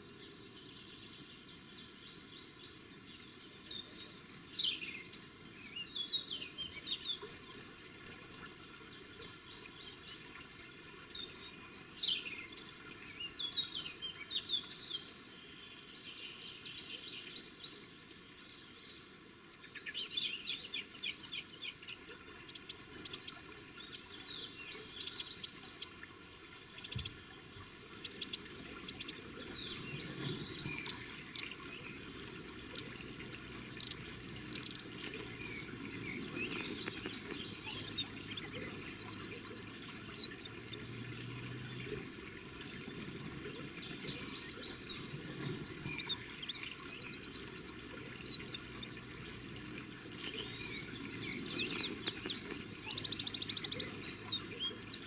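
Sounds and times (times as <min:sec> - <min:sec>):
small birds chirping: 0:00.0 - 0:55.0
stream water rushing: 0:00.0 - 0:55.0.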